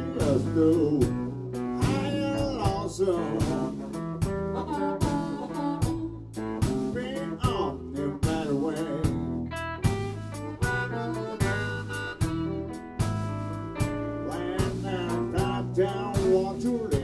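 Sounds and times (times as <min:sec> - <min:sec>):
bass guitar: 0:00.0 - 0:17.0
blues harmonica: 0:00.0 - 0:17.0
drum kit beat: 0:00.0 - 0:17.0
electric guitar: 0:00.0 - 0:17.0.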